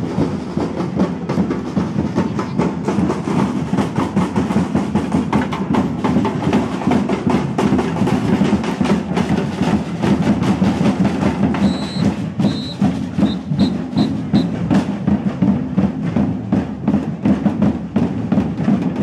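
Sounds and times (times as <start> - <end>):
percussion band drumming fast rhythm: 0.0 - 19.0.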